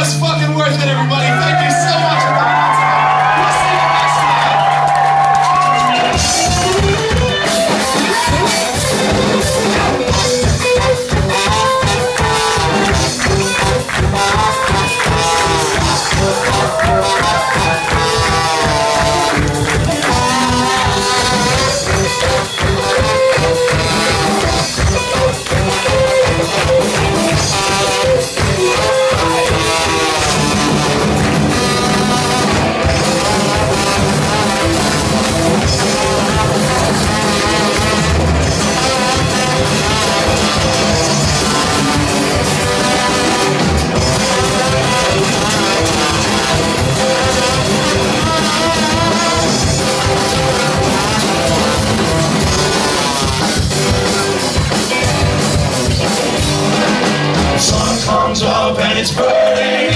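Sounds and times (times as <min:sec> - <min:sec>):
drum kit: 0:00.0 - 0:59.9
trombone: 0:08.2 - 0:56.9.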